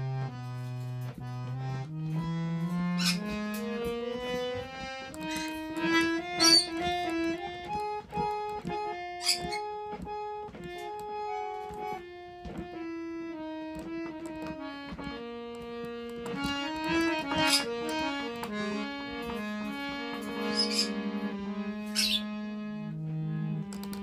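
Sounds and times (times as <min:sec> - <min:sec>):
harmonium slow melody: 0:00.0 - 0:24.0.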